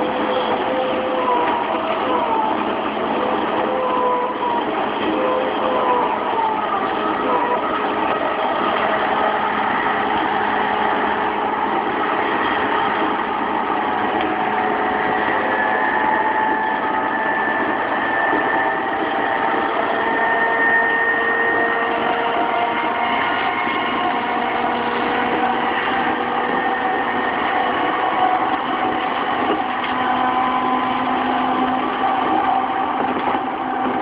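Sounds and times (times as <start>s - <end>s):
traction motor whine: 0.0s - 34.0s
train wheel and rail rumble: 0.0s - 34.0s.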